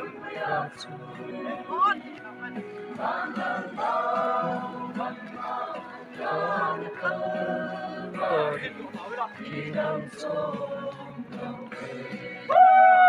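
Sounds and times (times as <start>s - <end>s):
group singing without instruments: 0.0s - 12.8s.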